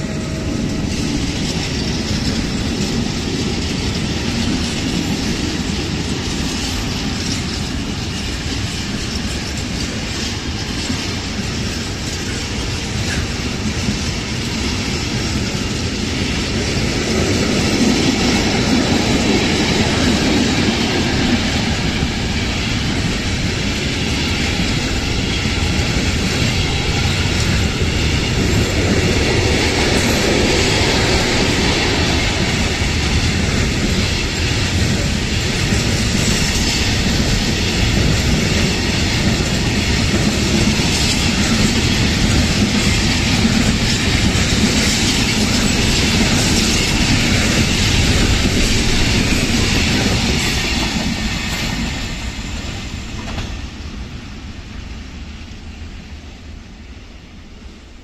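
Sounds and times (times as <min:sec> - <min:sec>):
freight train wheels clattering: 0:00.0 - 0:56.2.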